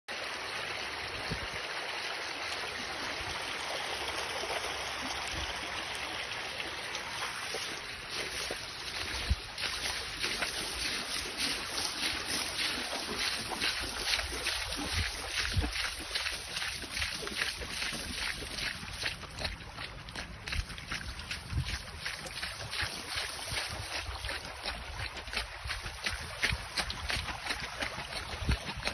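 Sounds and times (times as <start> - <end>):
floodwater rushing over road: 0.1 - 28.9.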